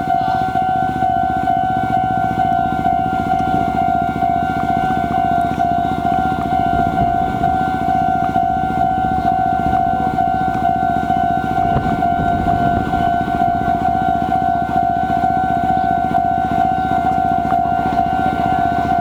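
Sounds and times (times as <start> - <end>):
electric train rumbling: 0.0 - 19.0
level-crossing alarm ringing: 0.0 - 19.0.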